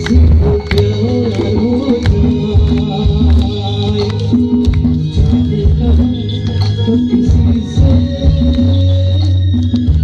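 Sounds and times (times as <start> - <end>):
instrumental backing music: 0.0 - 10.0.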